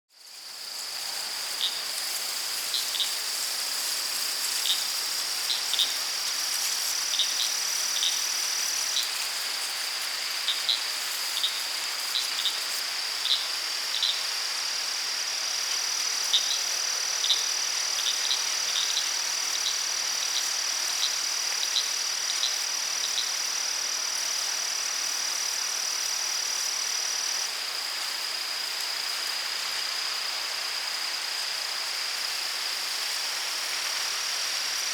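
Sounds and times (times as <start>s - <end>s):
insect chorus drone: 0.2s - 34.9s.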